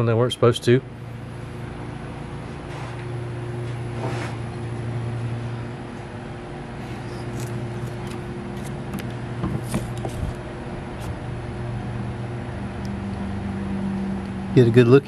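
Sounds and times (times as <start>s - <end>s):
refrigerating machine humming: 0.0s - 15.0s.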